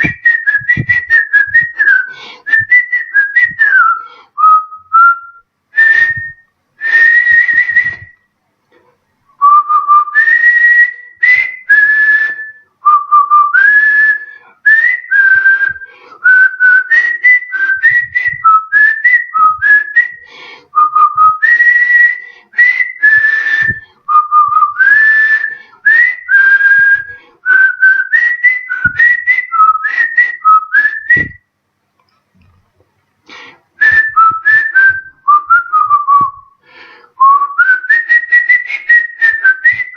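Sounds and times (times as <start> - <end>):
man whistling a melody: 0.0 - 8.3, 9.4 - 31.5, 33.4 - 39.9.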